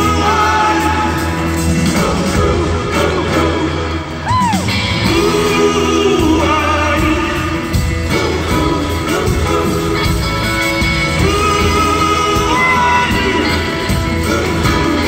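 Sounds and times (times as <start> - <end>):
drums: 0.0 - 15.0
electric guitar: 0.0 - 15.0
live rock band: 0.0 - 15.0
person singing: 0.0 - 15.0.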